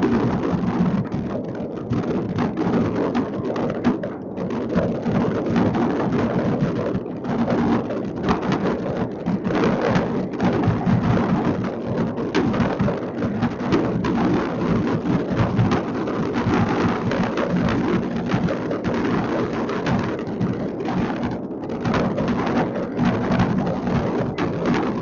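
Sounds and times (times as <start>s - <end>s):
distant fireworks bangs and crackles: 0.1s - 25.0s.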